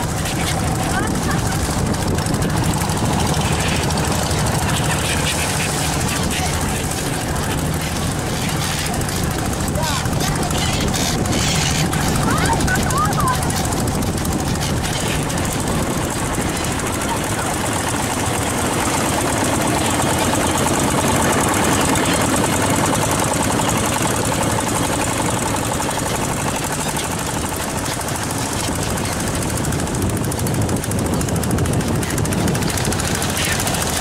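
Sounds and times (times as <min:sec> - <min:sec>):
boat engine knocking: 0:00.0 - 0:34.0.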